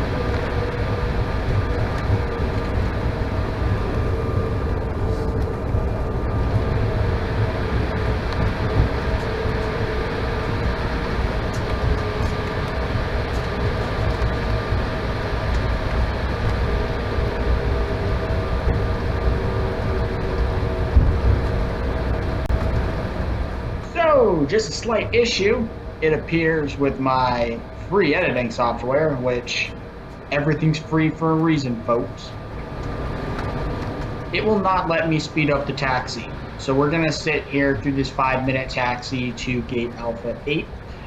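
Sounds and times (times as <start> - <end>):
jet cabin rumble: 0.0 - 41.0
jet engine whine: 0.0 - 41.0.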